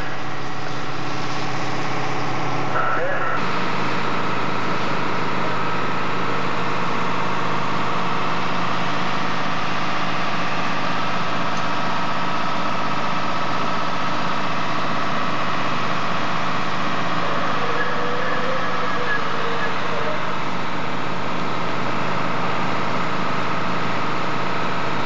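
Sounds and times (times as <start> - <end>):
fire engine pumps running: 0.0 - 25.0.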